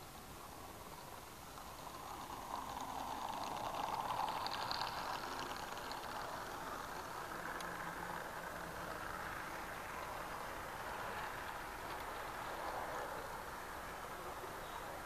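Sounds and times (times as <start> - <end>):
model train whirring: 0.0 - 15.0
wheels clicking on rails: 0.0 - 15.0.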